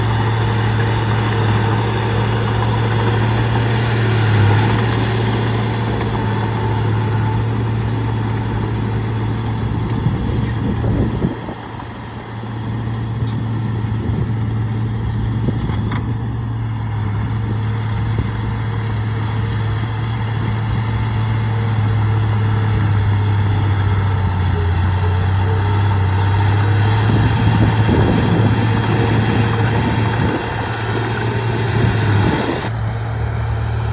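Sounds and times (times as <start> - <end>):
heavy machine engine droning: 0.0 - 33.9.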